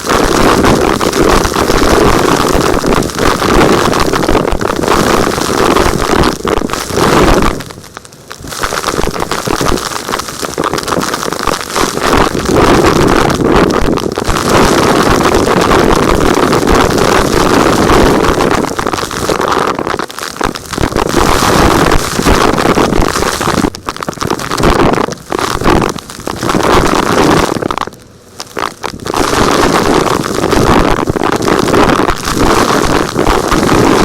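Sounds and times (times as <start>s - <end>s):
crackle of sucked-up rocks: 0.0s - 34.0s.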